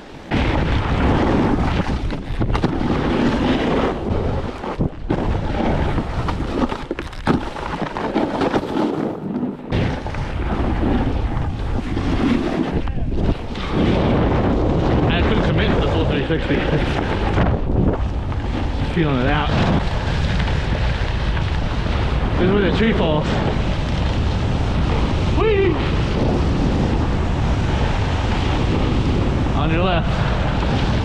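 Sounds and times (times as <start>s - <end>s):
wind buffeting microphone: 0.0s - 7.3s, 8.9s - 31.0s
snowboard scraping on icy snow: 0.0s - 31.0s.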